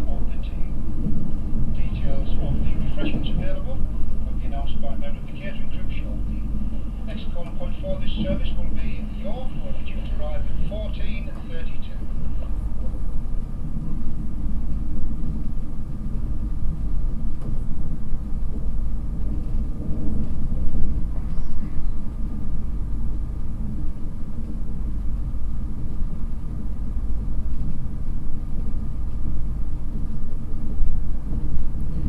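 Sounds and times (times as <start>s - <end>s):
train running low rumble: 0.0s - 32.0s.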